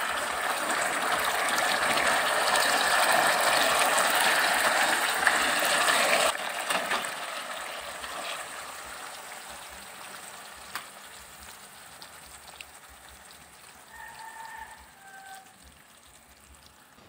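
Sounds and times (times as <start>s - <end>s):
sauce sizzling in a wok: 0.0s - 17.0s.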